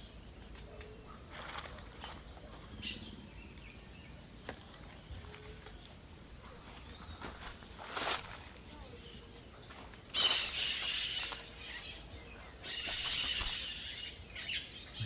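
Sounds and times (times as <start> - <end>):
thin high insect trill: 1.2 - 15.0.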